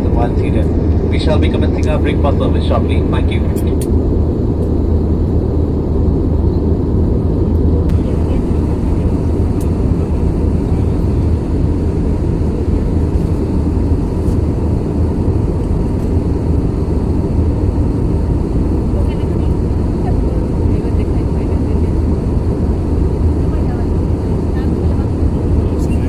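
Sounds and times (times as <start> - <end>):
jet airliner cabin rumble: 0.0 - 26.0.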